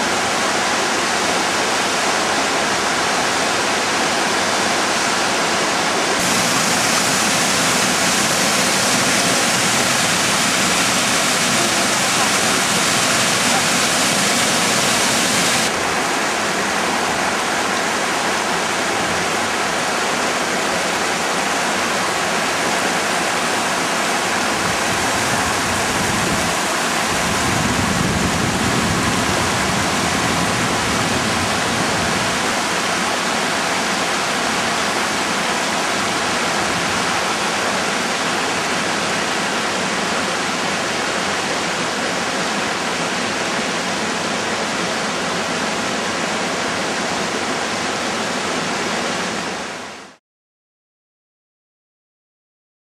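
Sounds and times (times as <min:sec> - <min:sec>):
stream rushing over stones: 0:00.0 - 0:50.2
waterfall pouring into pool: 0:00.1 - 0:48.8.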